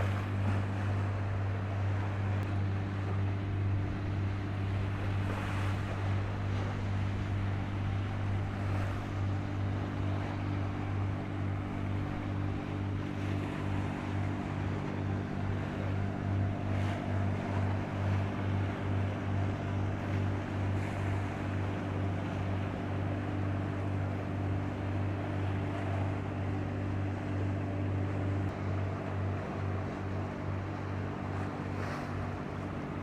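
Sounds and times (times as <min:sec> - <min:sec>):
ship engines droning: 0:00.0 - 0:33.0.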